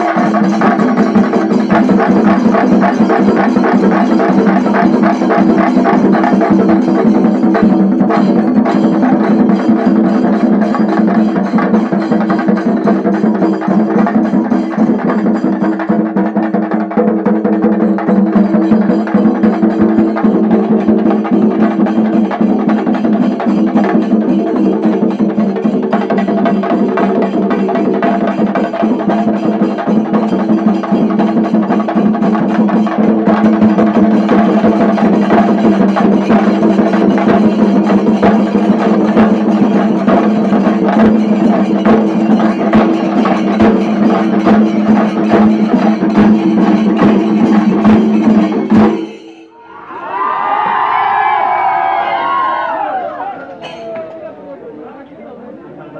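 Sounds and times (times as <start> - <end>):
drums beaten with sticks: 0.0 - 49.5, 53.6 - 54.2.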